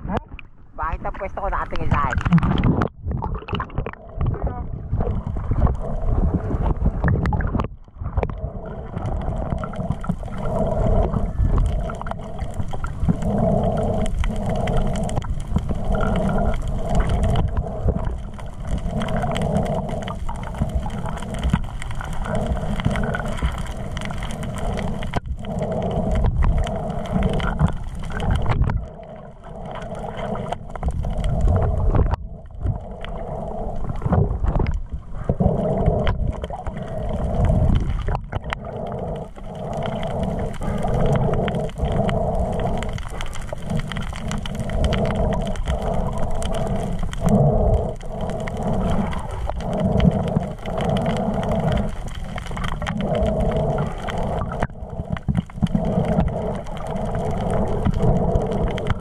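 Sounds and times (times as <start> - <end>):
underwater rumble and gurgling: 0.0 - 59.0.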